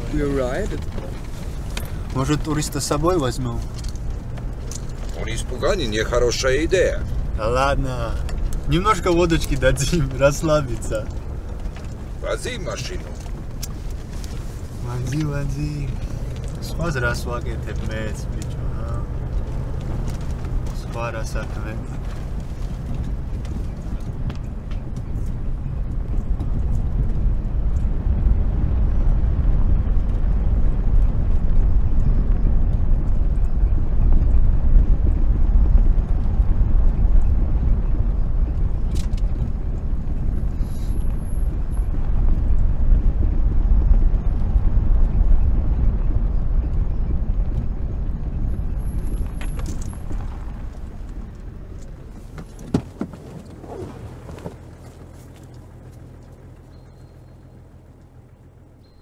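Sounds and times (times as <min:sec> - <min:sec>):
car engine and tyres rumble: 0:00.0 - 0:59.0.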